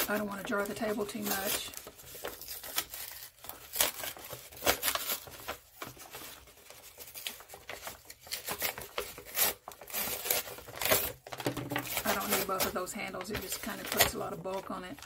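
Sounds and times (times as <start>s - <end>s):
paper bag crinkling: 0.0s - 15.0s.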